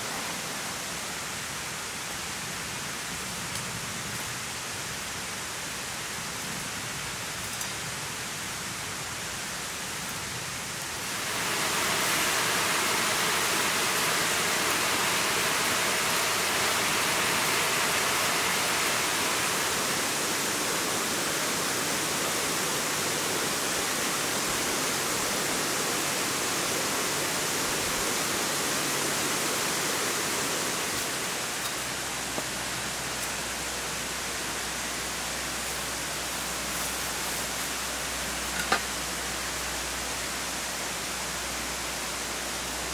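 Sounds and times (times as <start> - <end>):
flowing water rushing: 8.4 - 42.9.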